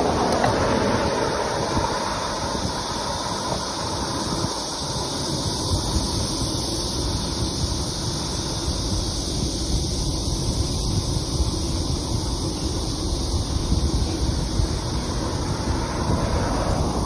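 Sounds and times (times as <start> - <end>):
road noise: 0.0 - 17.0
wind on microphone: 0.0 - 17.0.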